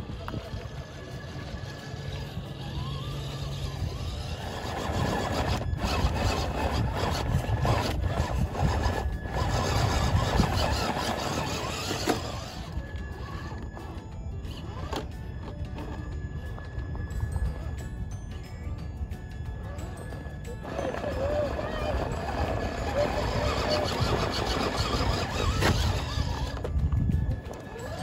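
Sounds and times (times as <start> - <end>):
electric motor and gears whining: 0.0 - 28.0.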